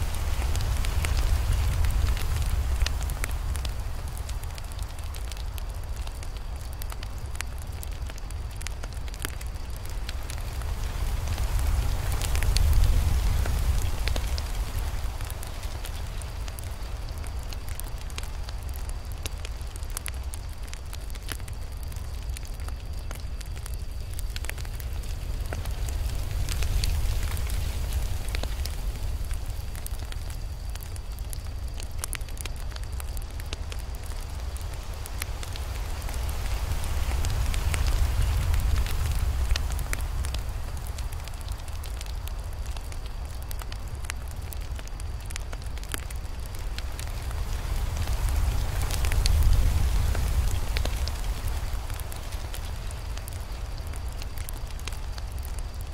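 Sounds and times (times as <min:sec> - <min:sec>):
campfire crackling and popping: 0:00.0 - 0:55.9
fire low rumble: 0:00.0 - 0:55.9.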